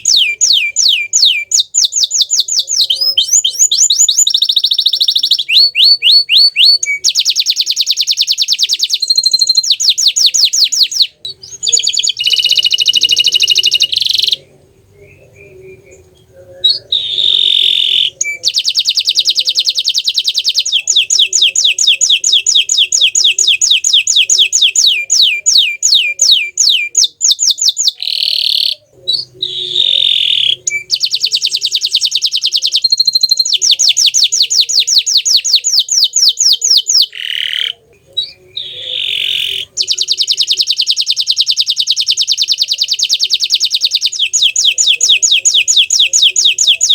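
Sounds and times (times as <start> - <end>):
canary singing in rapid trills: 0.0 - 46.9.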